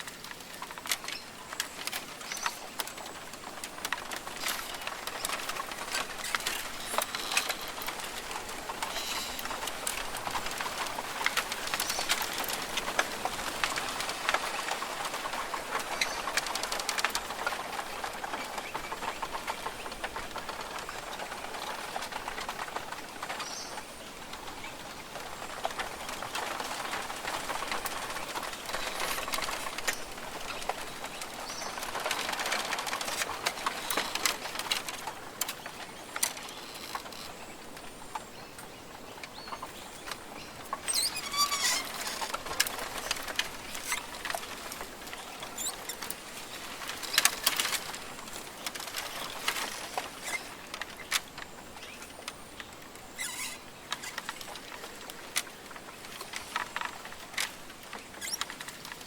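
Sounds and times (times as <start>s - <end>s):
hissing rustling forest background: 0.0s - 59.0s.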